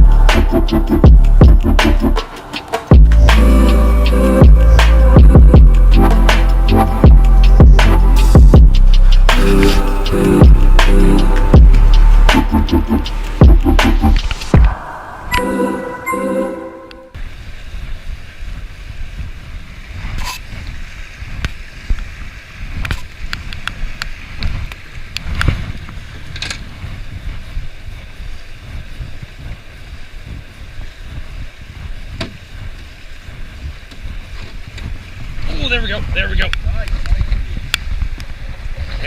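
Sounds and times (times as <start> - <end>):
wind rumbling on microphone: 0.0 - 15.4, 17.2 - 39.0.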